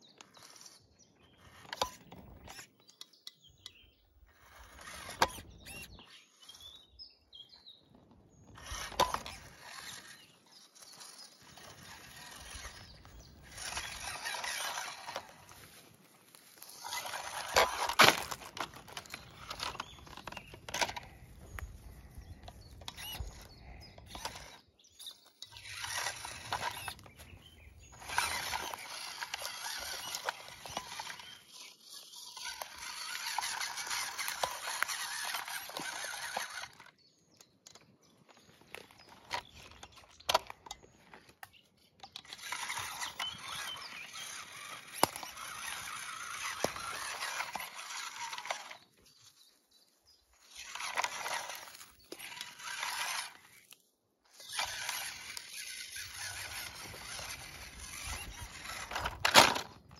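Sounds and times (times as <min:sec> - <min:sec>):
toy truck motor whirring: 0:00.0 - 0:07.0, 0:08.3 - 0:59.9
tyres crackling on bark: 0:08.4 - 0:59.9.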